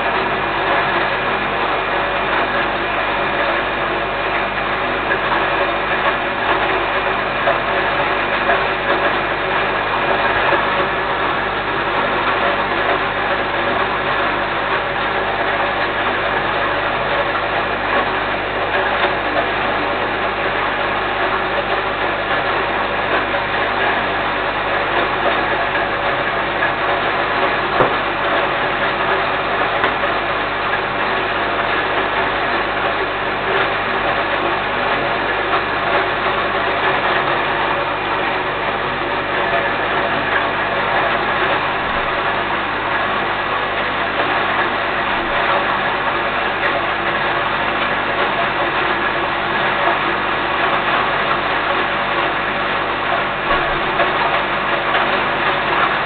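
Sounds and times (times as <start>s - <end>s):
electric grain mill humming and rattling: 0.0s - 56.0s.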